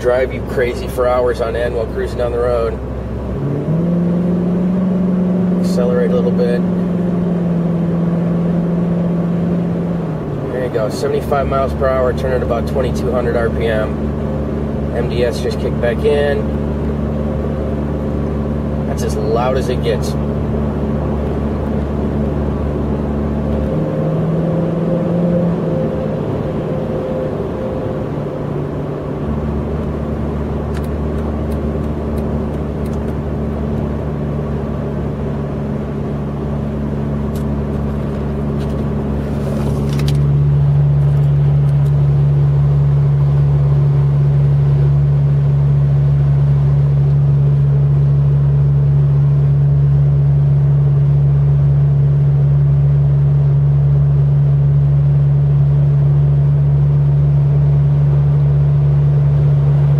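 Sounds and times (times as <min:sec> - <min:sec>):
car engine cruising from inside: 0:00.0 - 0:59.9.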